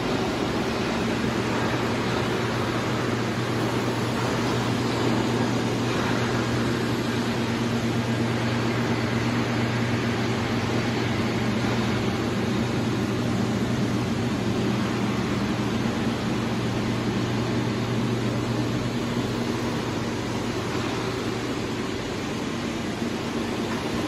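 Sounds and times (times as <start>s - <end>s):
cooling fans whirring: 0.0s - 24.0s
laser cladding equipment running: 0.0s - 24.0s
low constant hum: 0.0s - 24.0s.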